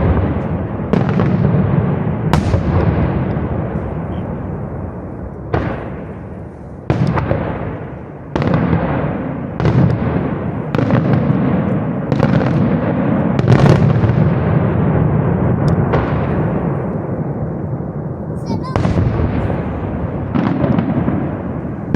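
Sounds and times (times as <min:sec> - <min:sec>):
fireworks bangs with rumbling echo: 0:00.0 - 0:21.9.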